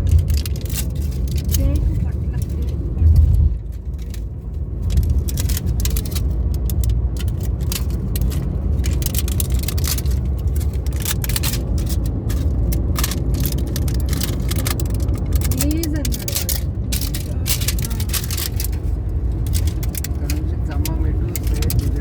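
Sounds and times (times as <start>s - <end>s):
plastic box crackling: 0.0s - 22.0s
steady low rumble: 0.0s - 22.0s.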